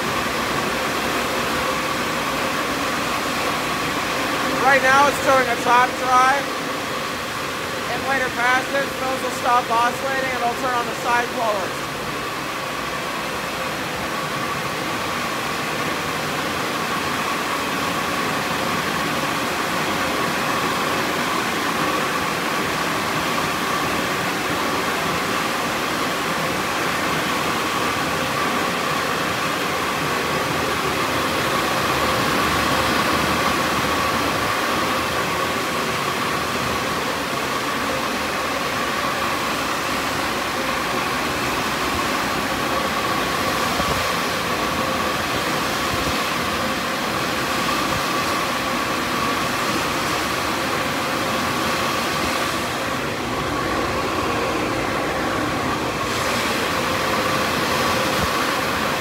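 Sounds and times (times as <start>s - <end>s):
dryer blower rushing air: 0.0s - 59.0s.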